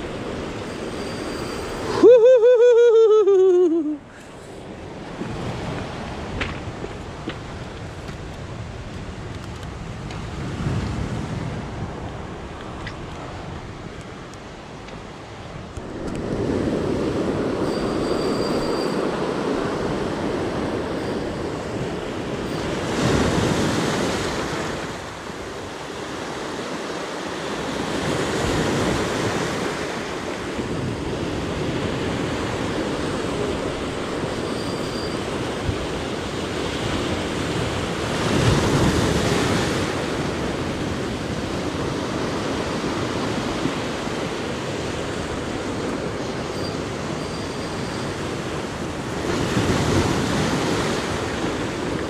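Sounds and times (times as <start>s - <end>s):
sea surf washing on shore: 0.0s - 52.0s
waves breaking: 0.0s - 52.0s.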